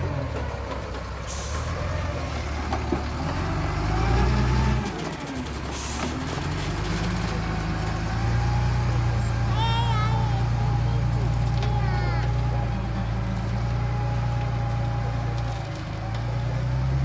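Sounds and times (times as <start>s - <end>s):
construction vehicle engine under load: 0.0s - 17.0s.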